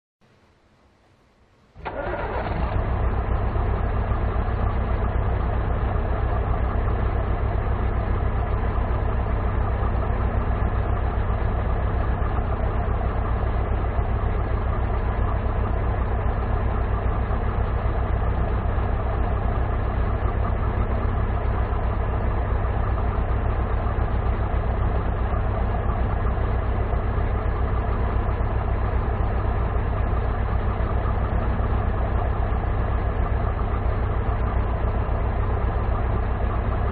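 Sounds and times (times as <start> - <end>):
diesel truck engine idling: 1.7 - 36.9.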